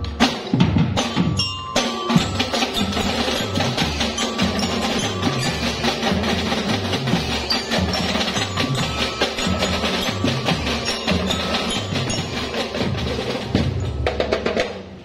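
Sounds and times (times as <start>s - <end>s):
marching drums beating: 0.0s - 15.0s
glockenspiels ringing a tune: 1.0s - 14.3s.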